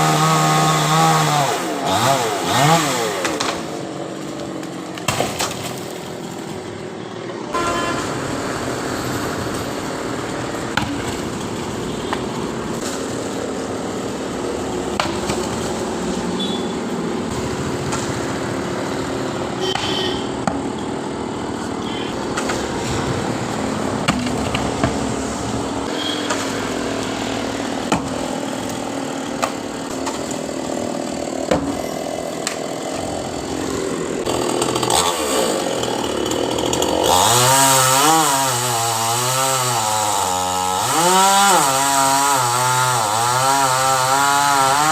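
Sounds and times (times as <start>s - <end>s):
chainsaw cutting wood: 0.0s - 6.5s, 10.6s - 16.5s, 17.1s - 44.9s.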